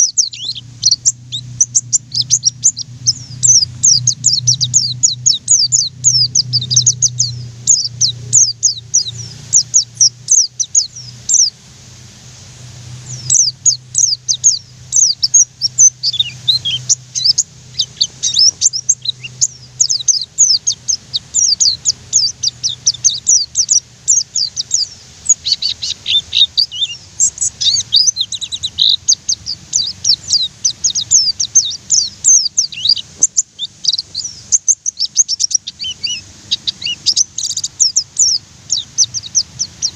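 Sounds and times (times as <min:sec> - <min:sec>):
bird singing high chirping notes: 0:00.0 - 0:11.6, 0:12.8 - 0:39.9.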